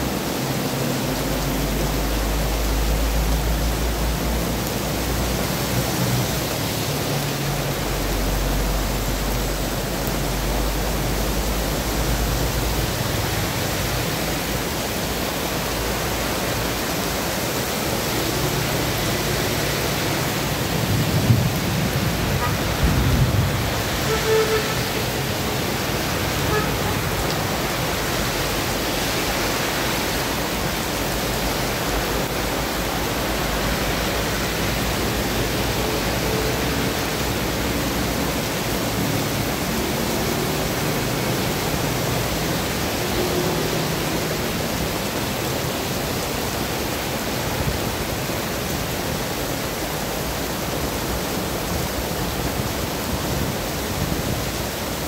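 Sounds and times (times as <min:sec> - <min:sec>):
heavy rain pouring: 0:00.0 - 0:55.0
vehicles passing through water: 0:00.0 - 0:55.0.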